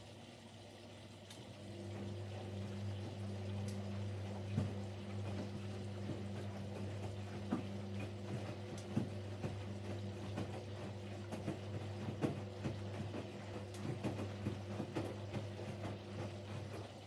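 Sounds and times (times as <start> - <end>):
water and laundry sloshing: 0.0 - 17.0
washing machine motor humming: 0.4 - 17.0.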